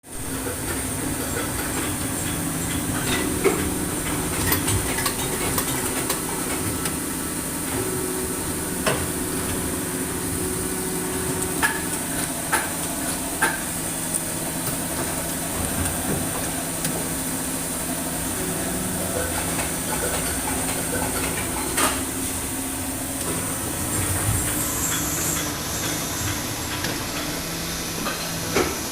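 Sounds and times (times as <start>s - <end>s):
machine humming: 0.1s - 28.0s.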